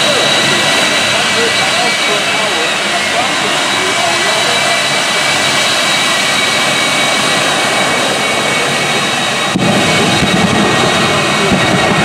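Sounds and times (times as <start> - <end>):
afterburner deep rumble: 0.0 - 12.0
high turbine whine: 0.0 - 12.0
jet engines roaring: 0.0 - 12.0.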